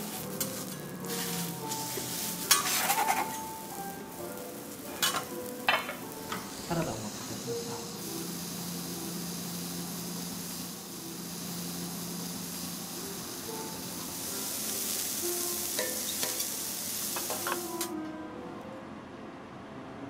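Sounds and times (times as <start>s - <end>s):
food sizzling on griddle: 0.0s - 18.0s.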